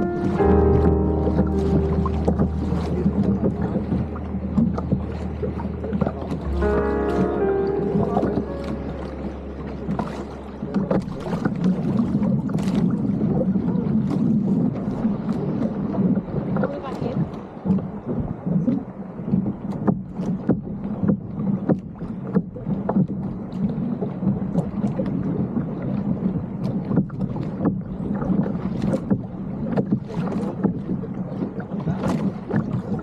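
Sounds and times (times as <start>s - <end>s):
wash of moving water: 0.0s - 33.0s
water slapping against hull: 0.0s - 33.0s
wind on microphone: 0.0s - 33.0s.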